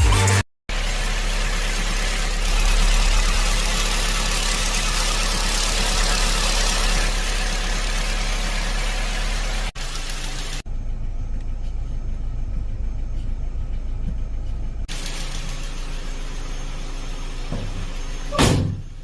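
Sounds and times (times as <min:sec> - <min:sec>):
car engine idling: 0:00.7 - 0:19.0.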